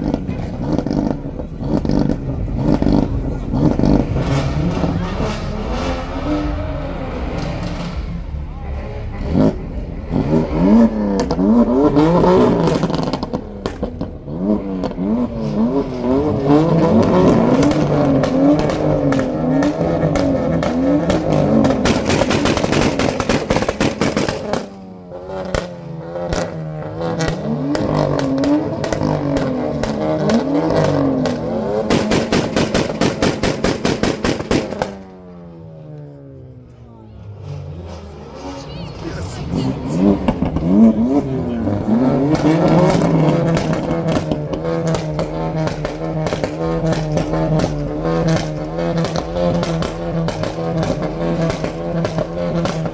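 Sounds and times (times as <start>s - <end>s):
exhaust pops and crackles: 0.0s - 36.8s, 40.1s - 52.9s
car engine revving: 0.0s - 52.9s.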